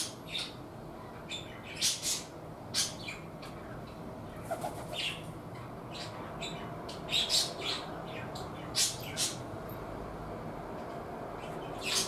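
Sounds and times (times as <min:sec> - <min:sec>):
small birds chirping: 0:00.0 - 0:09.5, 0:11.3 - 0:12.0.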